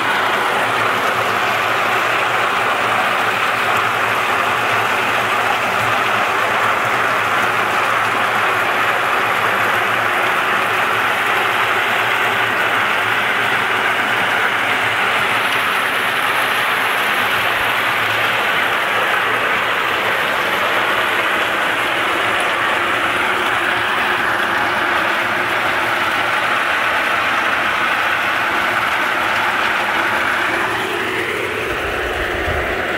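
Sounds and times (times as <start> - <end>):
walnut hulling machine churning: 0.0 - 32.9.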